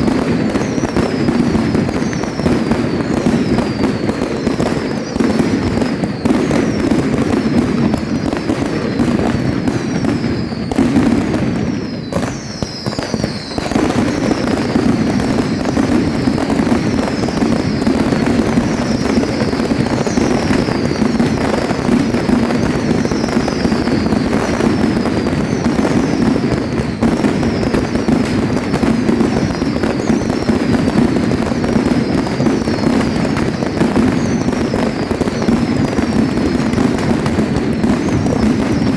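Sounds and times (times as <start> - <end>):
falling firework whistles: 0.0 - 38.9
firework bangs and crackle: 0.0 - 38.9.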